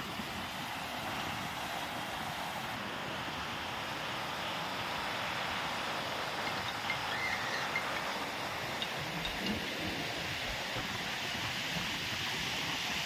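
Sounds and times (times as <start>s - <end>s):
waves washing up beach: 0.0s - 13.0s.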